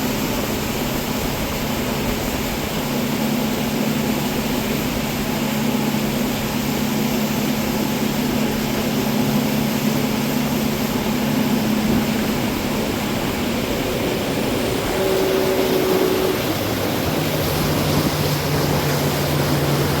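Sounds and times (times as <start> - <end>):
boat motor running: 0.0 - 20.0
rushing noise: 0.0 - 20.0.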